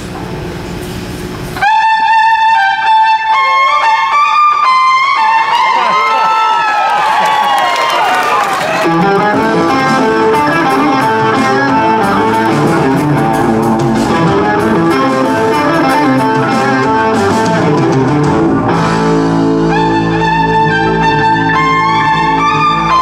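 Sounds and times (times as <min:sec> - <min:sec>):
bass guitar: 0:01.5 - 0:06.2, 0:08.7 - 0:23.0
electric violin long notes: 0:01.6 - 0:06.9, 0:08.6 - 0:23.0
electric guitar fast runs: 0:01.6 - 0:23.0.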